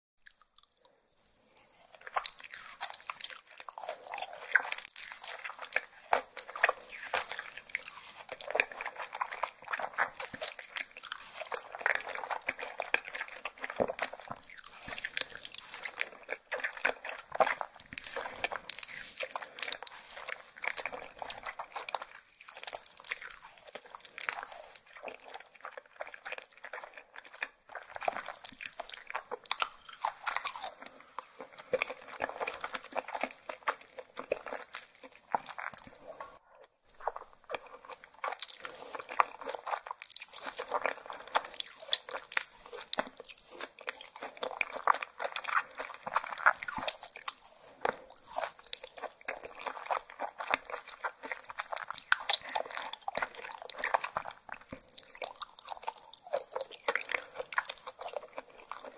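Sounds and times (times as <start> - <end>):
close-miked chewing and biting: 0.2 - 58.9.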